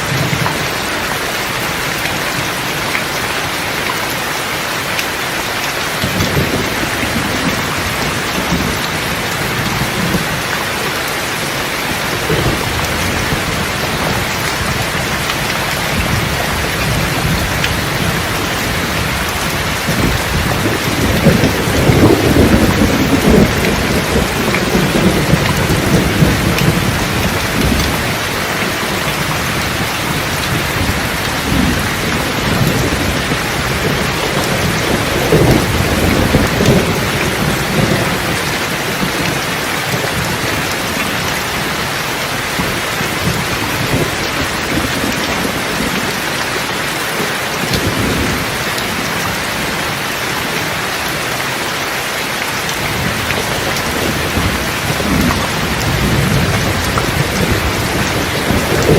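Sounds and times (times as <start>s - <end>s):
heavy rain: 0.0s - 58.9s
thunder rumbling: 4.8s - 51.3s, 52.6s - 58.9s.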